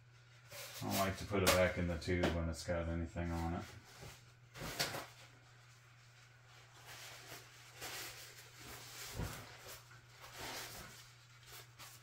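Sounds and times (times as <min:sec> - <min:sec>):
paper towel rustling: 0:00.0 - 0:01.9, 0:03.2 - 0:12.0.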